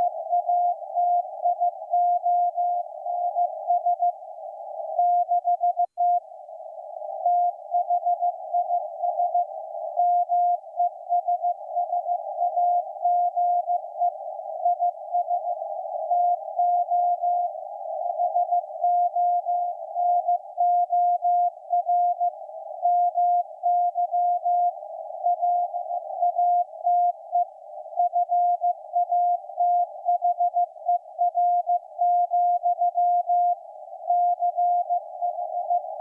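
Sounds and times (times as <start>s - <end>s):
receiver hiss: 0.0s - 36.0s.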